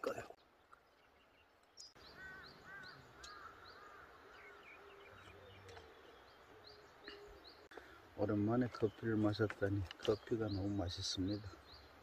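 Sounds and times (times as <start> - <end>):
bird calls: 0.0 - 12.0.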